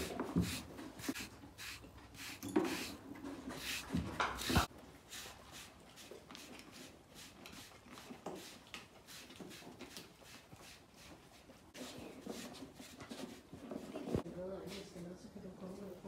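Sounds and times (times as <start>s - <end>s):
brush swishing over pony coat: 0.0s - 13.8s.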